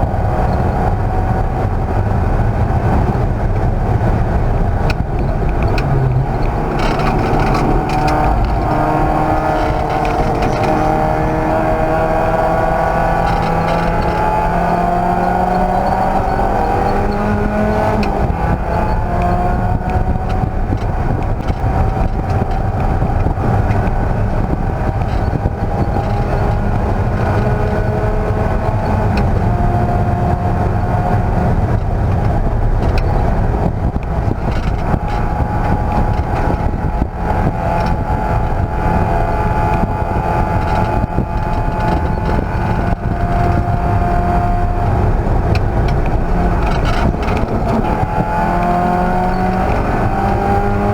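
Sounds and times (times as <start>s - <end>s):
race car engine running hard: 0.0s - 50.9s
road and wind noise: 0.0s - 50.9s.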